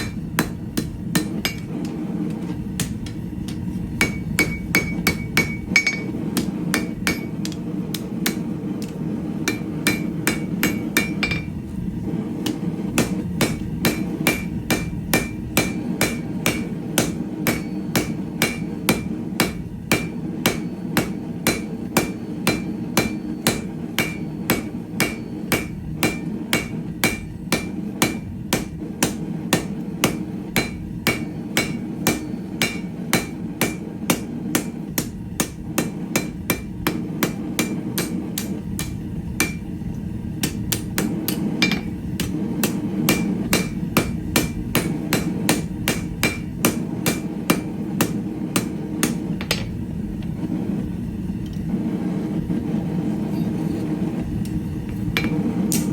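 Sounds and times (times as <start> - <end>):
hammer blows on anvil: 0.0 - 11.6, 12.4 - 39.8, 40.4 - 49.8
steady low hum: 0.0 - 55.9.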